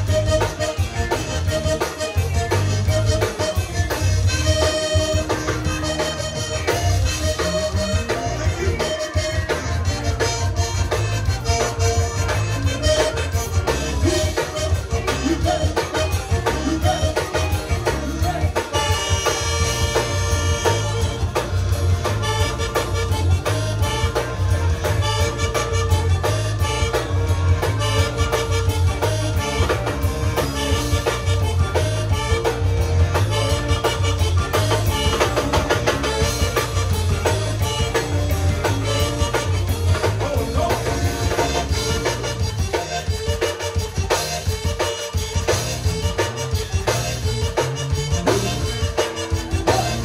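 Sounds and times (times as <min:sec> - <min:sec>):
accordion: 0:00.0 - 0:50.0
bass: 0:00.0 - 0:50.0
drum kit: 0:00.0 - 0:50.0.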